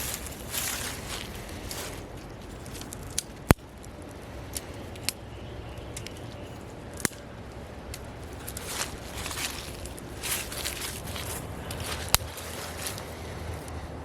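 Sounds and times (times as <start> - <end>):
logs crackling and popping: 0.0 - 14.0
wood fire rumbling: 0.0 - 14.0.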